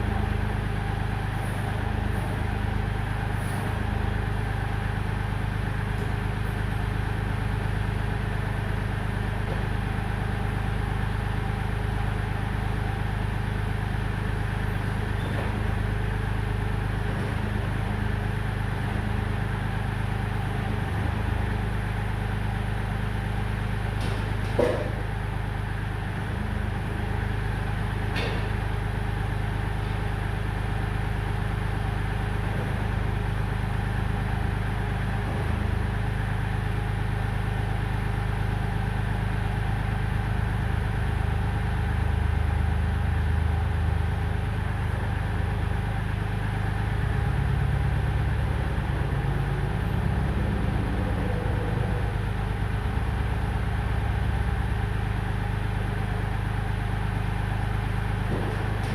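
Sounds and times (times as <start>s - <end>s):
tractor diesel engine droning: 0.0s - 58.9s.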